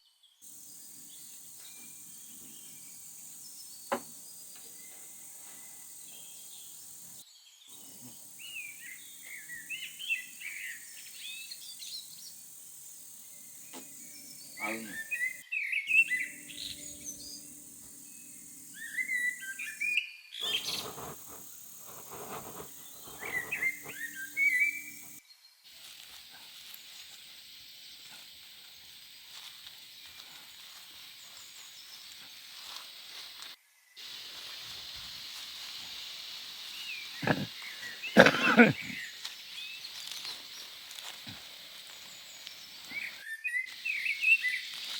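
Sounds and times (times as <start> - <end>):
small birds chirping: 0.4 - 44.9
steady hiss: 0.4 - 44.9.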